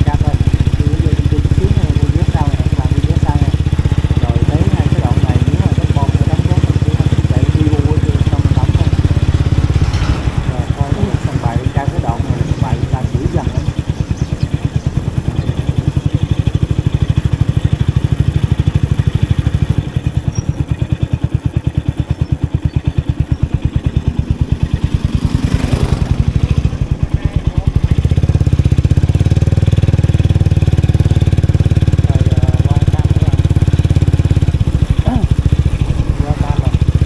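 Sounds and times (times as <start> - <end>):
motorbike engine running: 0.0 - 37.0.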